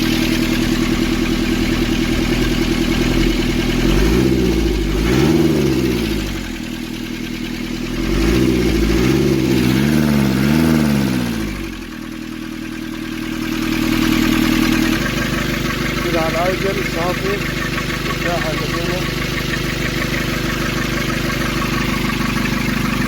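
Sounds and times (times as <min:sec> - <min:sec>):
diesel engine revving and idling: 0:00.0 - 0:23.0.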